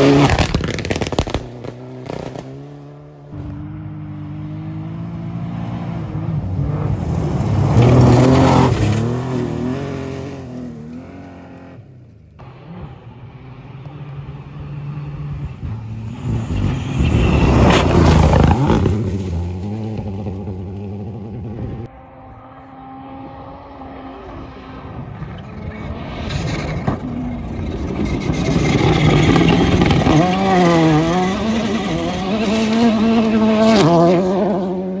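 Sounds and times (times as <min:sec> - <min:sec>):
distant car engine: 0:00.0 - 0:35.0
rally car passing by: 0:01.6 - 0:35.0.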